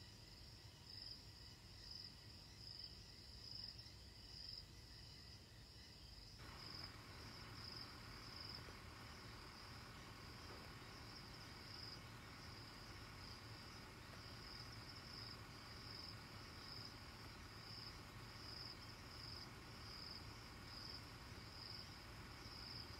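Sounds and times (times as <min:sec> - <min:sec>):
crickets trilling: 0:00.0 - 0:22.9.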